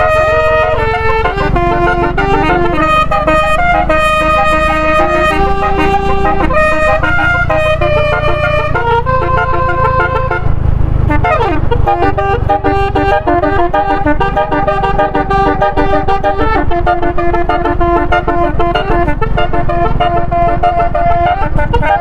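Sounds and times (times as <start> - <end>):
bus musical horn playing a tune: 0.0 - 22.0
low engine rumble: 0.0 - 22.0.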